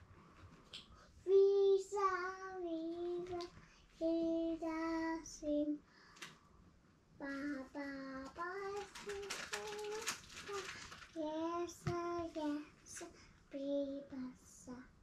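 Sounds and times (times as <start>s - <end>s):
child singing: 1.2s - 5.8s, 7.2s - 15.0s.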